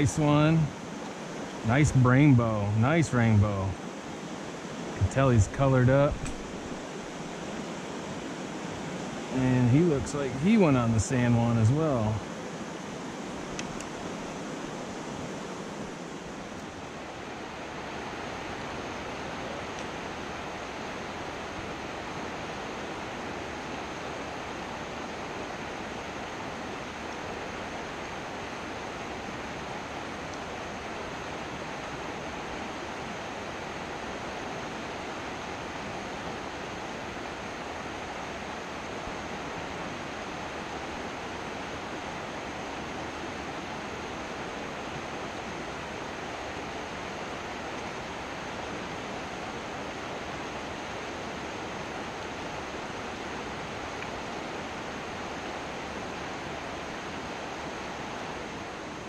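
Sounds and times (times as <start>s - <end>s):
stream water running over stones: 0.0s - 59.0s.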